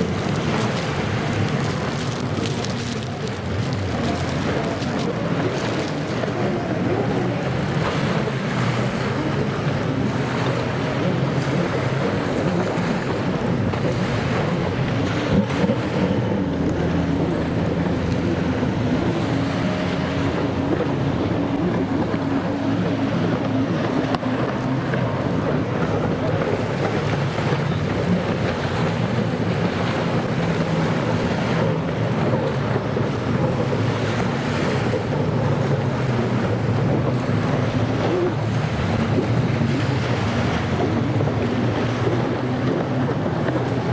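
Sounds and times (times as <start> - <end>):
jet ski engines racing: 0.0 - 43.9
waves washing: 0.0 - 43.9
wind buffeting microphone: 0.0 - 43.9.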